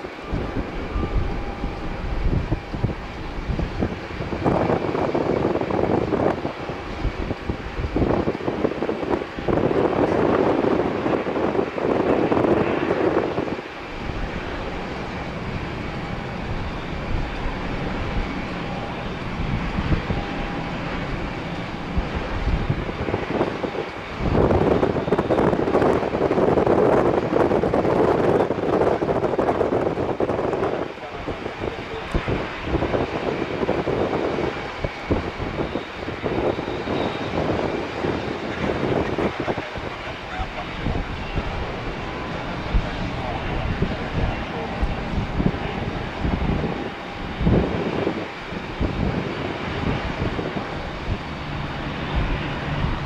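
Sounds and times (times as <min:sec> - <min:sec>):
jet engine rumbling: 0:00.0 - 0:53.0.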